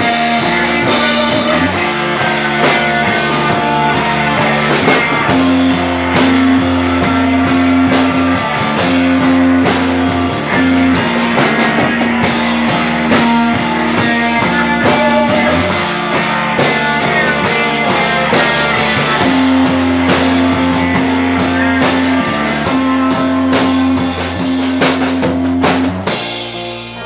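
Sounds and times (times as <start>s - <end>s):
drum kit beat: 0.0s - 27.0s
electric guitars: 0.0s - 27.0s.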